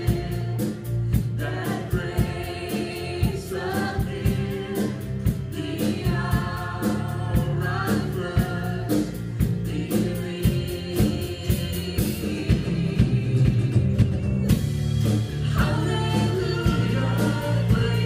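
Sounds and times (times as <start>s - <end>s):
voices singing together: 0.0s - 14.0s, 15.4s - 18.0s
drum kit: 0.0s - 18.0s.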